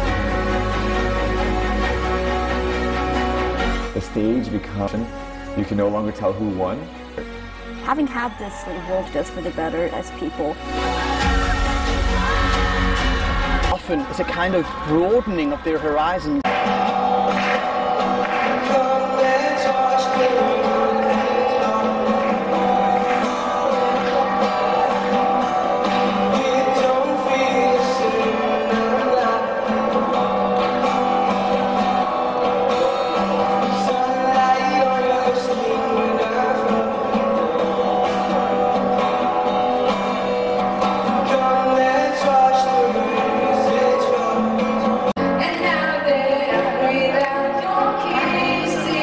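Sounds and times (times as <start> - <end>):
song with guitar and singing: 0.0 - 4.0, 8.7 - 49.0.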